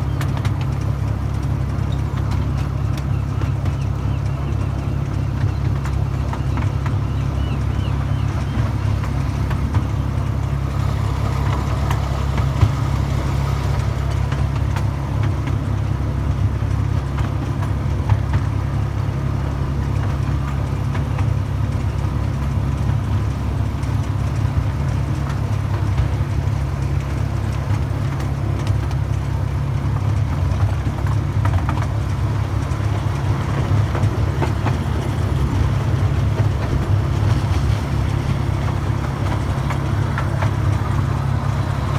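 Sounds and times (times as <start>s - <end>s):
miniature train rumbling: 0.0s - 41.9s.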